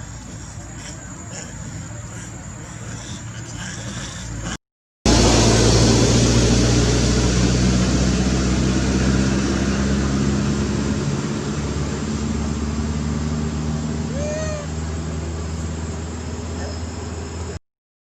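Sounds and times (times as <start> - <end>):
motor engine humming: 0.0 - 17.6.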